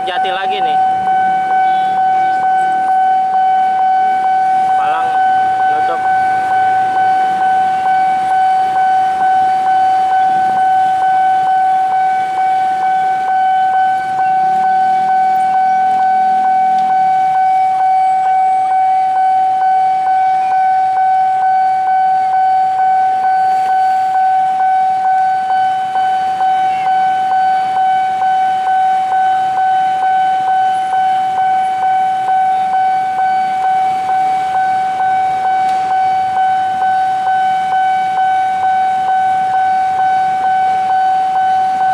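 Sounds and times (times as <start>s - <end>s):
level crossing alarm pulsing: 0.0s - 41.9s.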